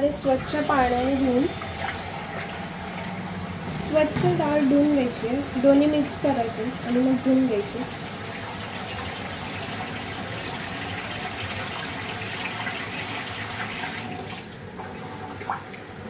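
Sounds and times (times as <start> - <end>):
tap water running into pot: 0.0 - 15.9.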